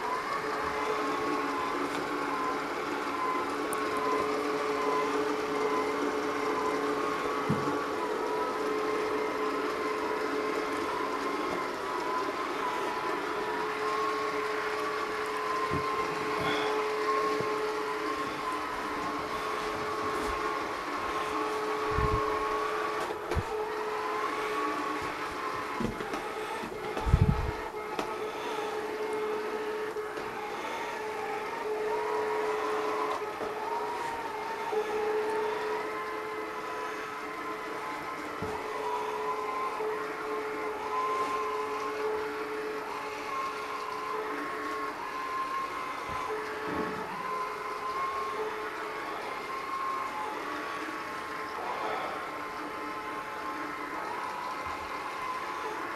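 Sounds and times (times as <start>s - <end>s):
robot vacuum motor hum: 0.0s - 55.9s.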